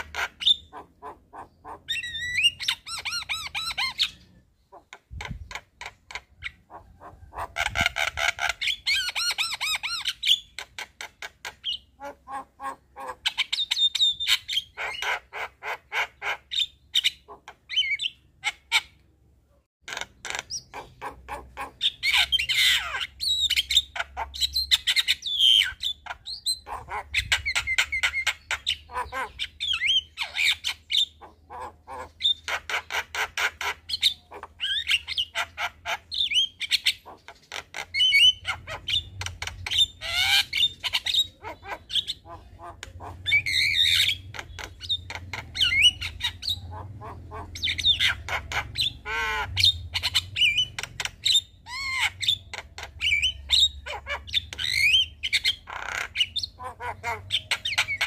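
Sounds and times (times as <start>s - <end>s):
bird squawks: 0.0s - 19.0s, 19.8s - 58.0s
bird singing and chattering: 0.0s - 19.1s, 19.8s - 58.0s.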